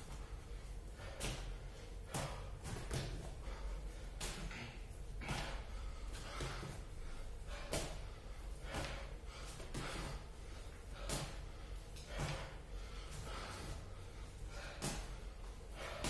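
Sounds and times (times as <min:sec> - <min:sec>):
man breathing hard and gasping: 0:00.0 - 0:16.0.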